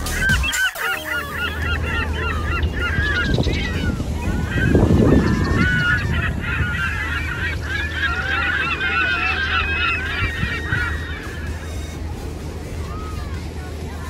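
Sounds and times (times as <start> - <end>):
birds calling: 0.0 - 14.0
low city rumble: 1.2 - 14.0.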